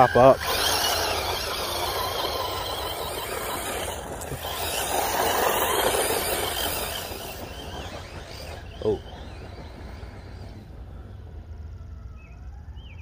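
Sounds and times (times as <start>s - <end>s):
rc car motor whining: 0.0s - 11.8s.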